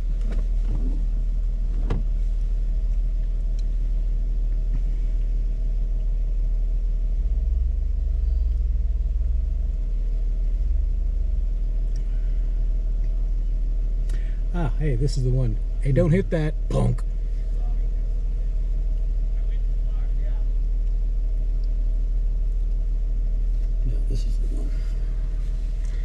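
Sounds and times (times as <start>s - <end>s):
engine rumbling at low revs: 0.0s - 26.0s.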